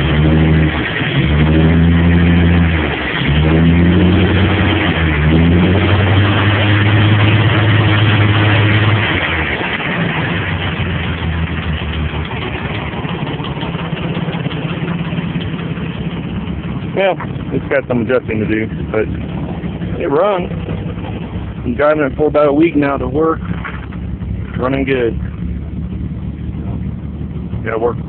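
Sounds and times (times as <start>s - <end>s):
engine revving and idling: 0.0s - 28.0s.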